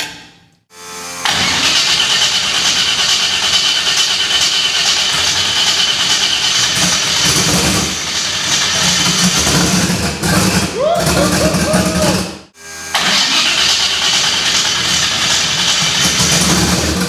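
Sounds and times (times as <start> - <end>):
engine starting and running rough: 1.2 - 17.0.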